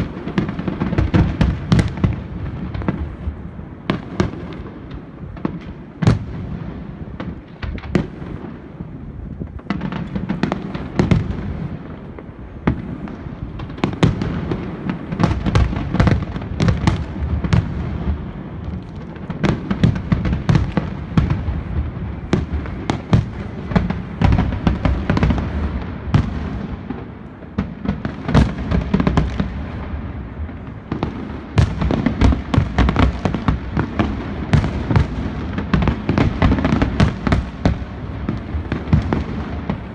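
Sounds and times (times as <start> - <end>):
fireworks bangs and crackles: 0.0 - 39.9
low rumble of fireworks bursts: 0.0 - 39.9.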